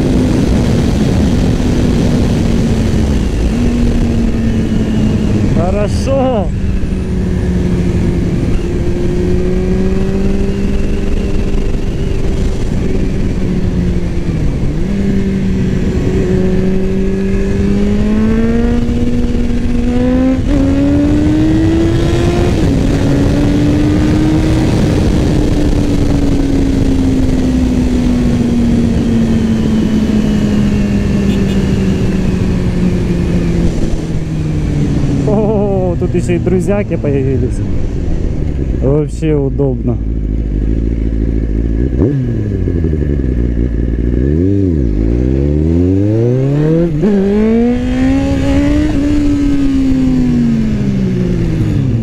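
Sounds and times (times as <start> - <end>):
motorcycle engine accelerating: 0.0 - 52.0
wind noise: 0.0 - 52.0.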